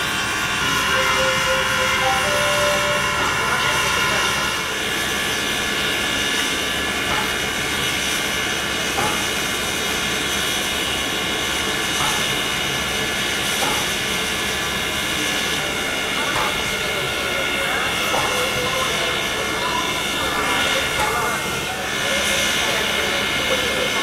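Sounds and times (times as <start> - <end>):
steady whining tones: 0.0 - 24.0.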